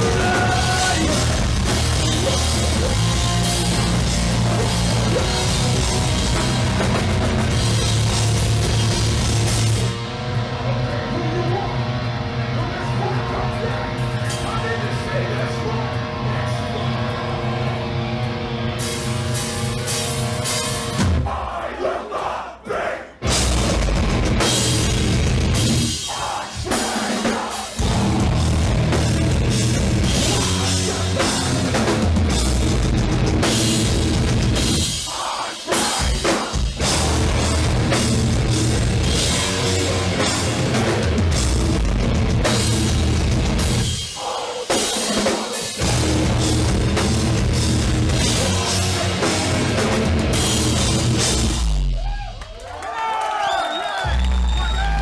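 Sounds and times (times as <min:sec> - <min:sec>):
live metal band playing: 0:00.0 - 0:21.4, 0:23.2 - 0:52.1
pounding drum kit: 0:00.0 - 0:22.3, 0:23.2 - 0:52.6.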